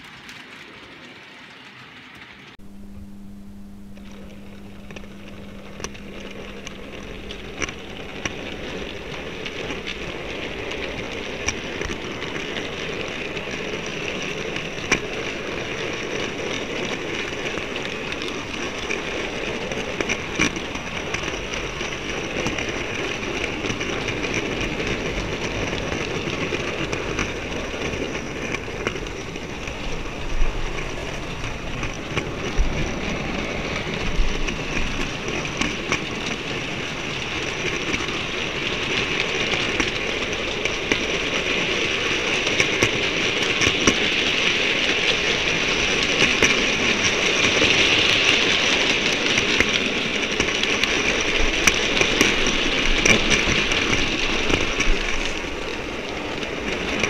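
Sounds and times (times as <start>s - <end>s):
model train wheels rumbling on rails: 0.0s - 57.0s.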